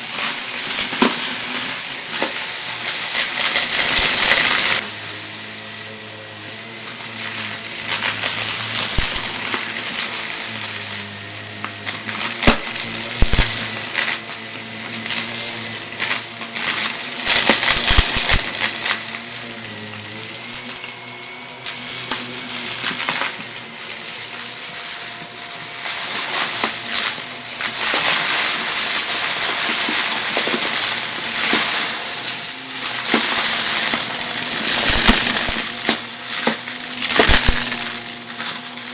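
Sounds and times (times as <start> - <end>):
debris crackling into vacuum: 0.0 - 38.9
vacuum cleaner motor whine: 0.0 - 38.9.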